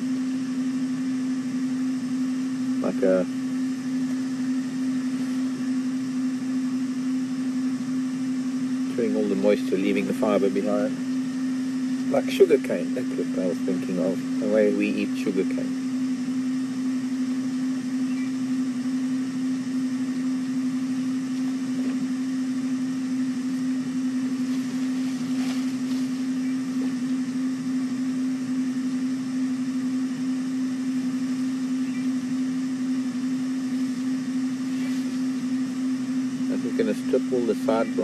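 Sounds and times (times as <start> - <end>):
steady hum: 0.0 - 38.0.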